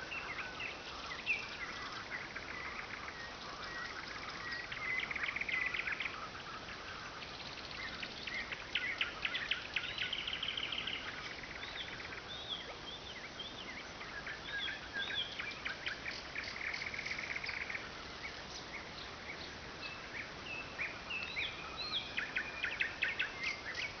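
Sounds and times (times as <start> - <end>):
nightingale singing: 0.0 - 24.0.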